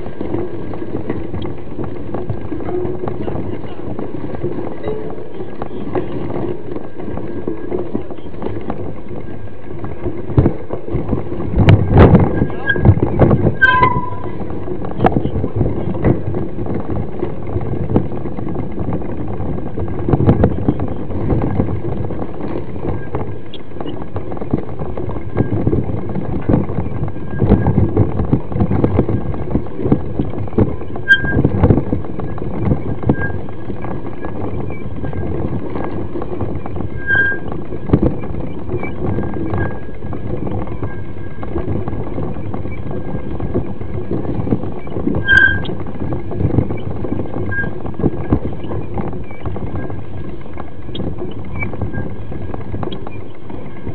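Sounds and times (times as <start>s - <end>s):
bike rattling knocks and clicks: 0.0s - 53.9s
bike rumbling over dirt trail: 0.0s - 53.9s.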